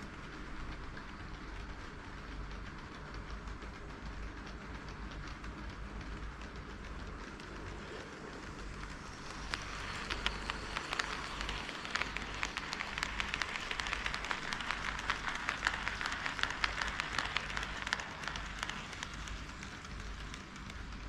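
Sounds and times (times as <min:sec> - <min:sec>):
model train wheels rolling on rail: 0:00.0 - 0:21.0
wheels clicking over track joints: 0:00.0 - 0:21.0.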